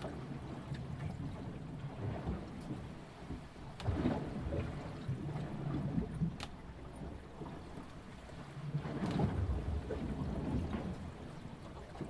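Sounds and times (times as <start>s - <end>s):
water rushing along boat hull: 0.0s - 12.0s.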